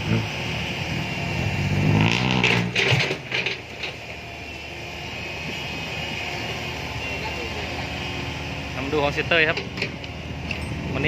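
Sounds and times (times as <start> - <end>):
dump truck engine: 0.0 - 11.0
road noise: 0.0 - 11.0.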